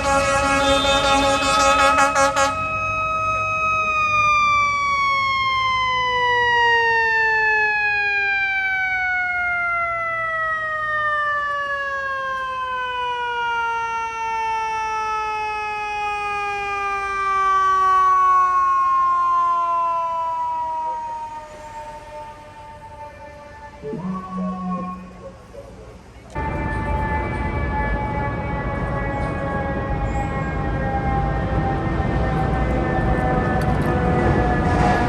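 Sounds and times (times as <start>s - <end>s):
mechanical siren wailing: 0.0s - 25.6s, 26.3s - 35.0s.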